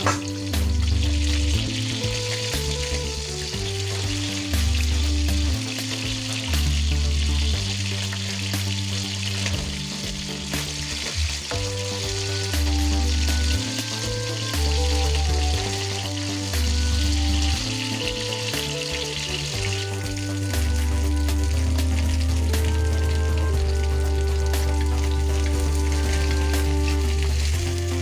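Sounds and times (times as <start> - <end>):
fish sizzling in hot oil: 0.0 - 28.0
music with deep bass: 0.0 - 28.0.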